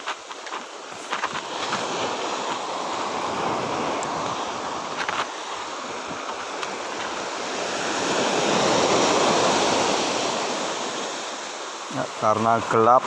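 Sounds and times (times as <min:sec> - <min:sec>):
sea surf washing at shore: 0:00.0 - 0:13.0.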